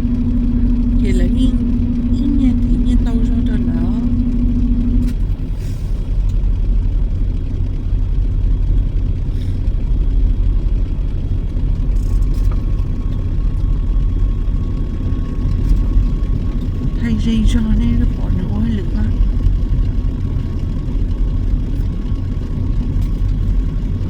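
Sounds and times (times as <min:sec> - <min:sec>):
heavy truck rumble: 0:00.0 - 0:24.0.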